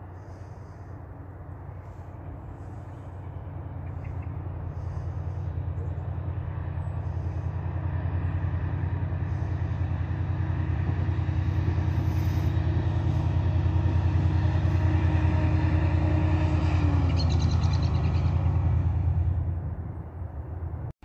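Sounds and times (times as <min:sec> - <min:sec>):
passenger train rumbling past: 0:00.0 - 0:20.9.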